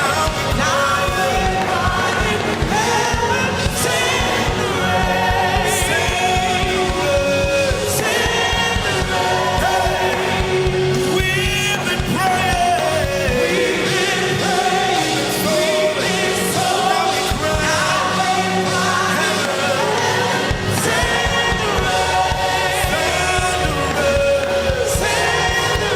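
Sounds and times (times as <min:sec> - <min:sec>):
band with keyboard and drums: 0:00.0 - 0:25.9
voices singing gospel: 0:00.0 - 0:25.9.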